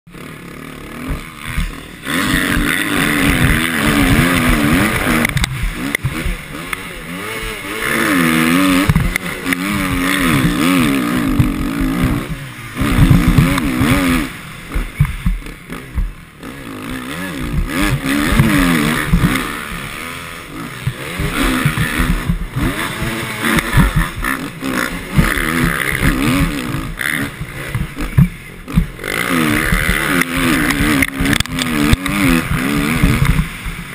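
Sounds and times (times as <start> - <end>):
motocross bike engine revving: 0.1 - 33.9.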